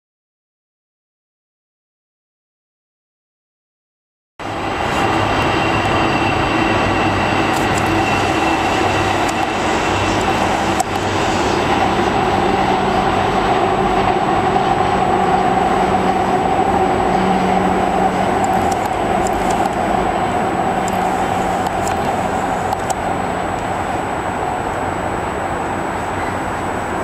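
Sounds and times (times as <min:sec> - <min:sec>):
steady hum: 0:04.4 - 0:27.0
train rumbling across a bridge: 0:04.4 - 0:27.0.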